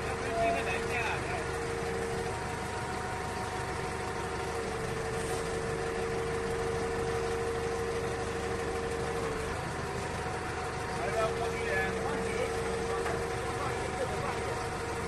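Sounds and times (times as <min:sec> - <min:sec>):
diesel forklift engine running: 0:00.0 - 0:15.0.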